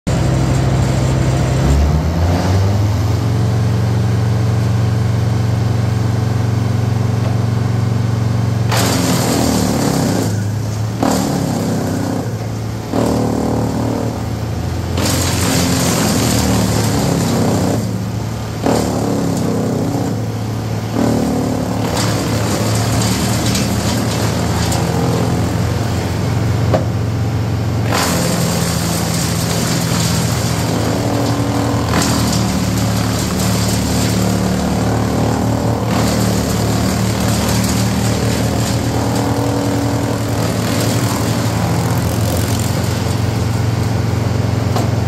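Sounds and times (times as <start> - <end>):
wood chipper engine running: 0.1 - 45.0.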